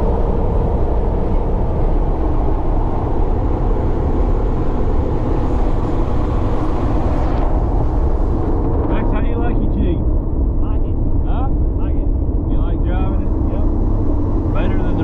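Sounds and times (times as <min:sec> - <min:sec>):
engine drone: 0:00.0 - 0:15.0
wind: 0:00.0 - 0:15.0.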